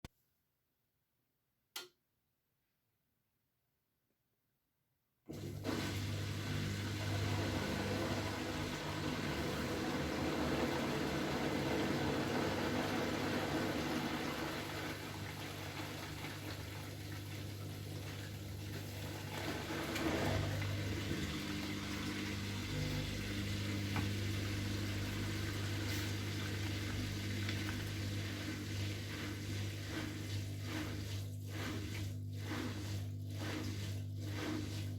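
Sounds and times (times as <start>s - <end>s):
washing machine motor humming: 5.3s - 34.9s.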